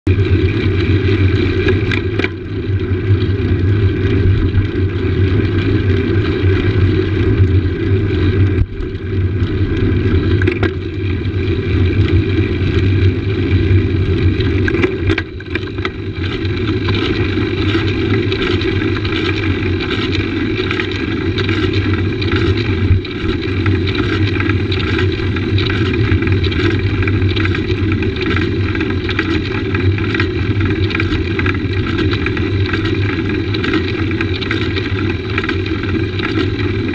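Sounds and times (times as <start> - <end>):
tyres rumbling on road: 0.1 - 36.9.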